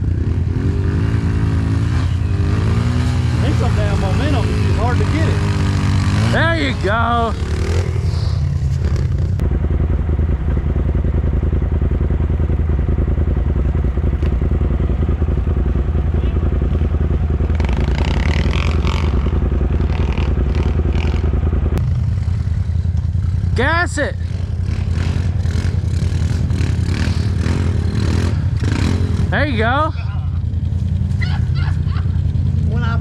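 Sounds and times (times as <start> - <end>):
dirt bike engine: 0.0 - 33.0
utility vehicle engine running: 0.0 - 33.0.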